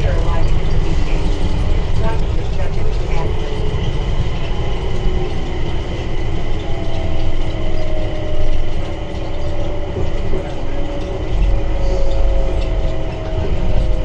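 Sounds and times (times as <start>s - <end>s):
train motor whine: 0.0s - 14.0s
train running low rumble: 0.0s - 14.0s.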